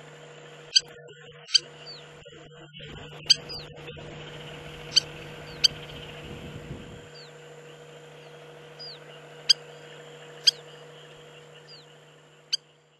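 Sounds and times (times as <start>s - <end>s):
lapwing sharp calls: 0.0s - 12.9s.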